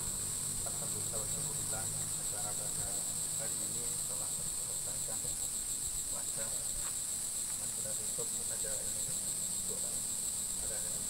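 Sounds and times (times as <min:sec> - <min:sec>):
faint voices: 0:00.0 - 0:11.0
insects droning: 0:00.0 - 0:11.0.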